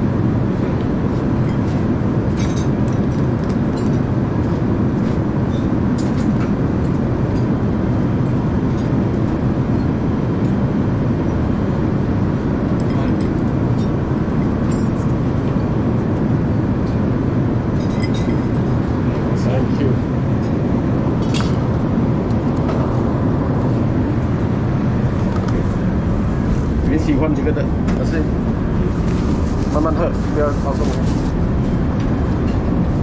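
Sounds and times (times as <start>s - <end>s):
airplane cabin roar: 0.0s - 33.0s.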